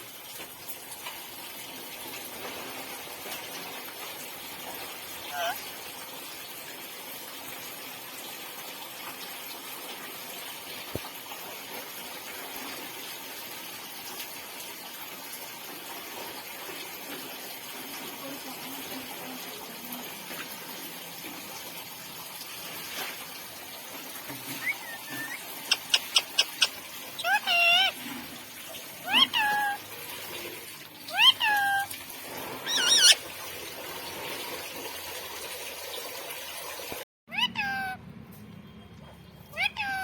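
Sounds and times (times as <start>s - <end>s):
running water rushing: 0.0s - 37.8s.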